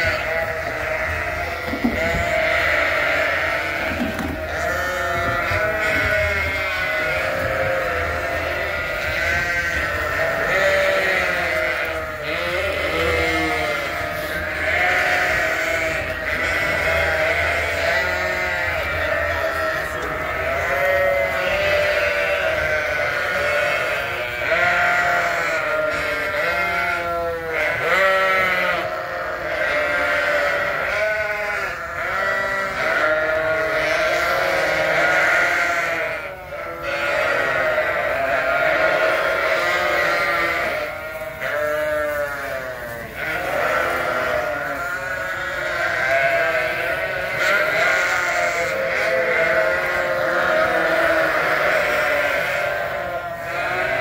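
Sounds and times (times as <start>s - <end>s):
sheep and lambs bleating: 0.0s - 54.0s.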